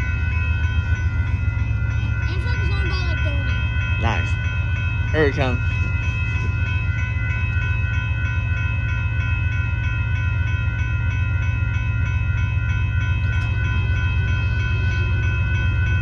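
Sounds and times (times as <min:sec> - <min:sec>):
railroad crossing bell ringing: 0:00.0 - 0:16.0.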